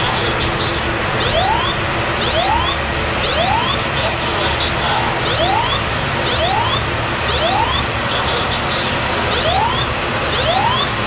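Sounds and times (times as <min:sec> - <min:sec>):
fire alarm rising sweep tone: 0:00.2 - 0:04.0, 0:05.2 - 0:11.0.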